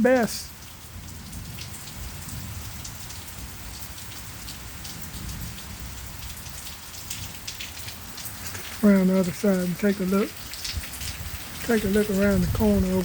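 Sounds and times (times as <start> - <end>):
rain with drops ticking: 0.0 - 13.0.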